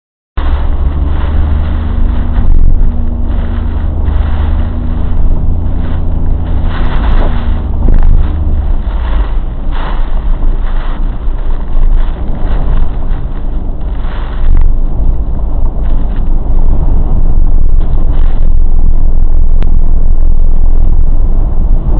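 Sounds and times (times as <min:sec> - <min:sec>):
storm wind buffeting microphone: 0:00.4 - 0:21.9.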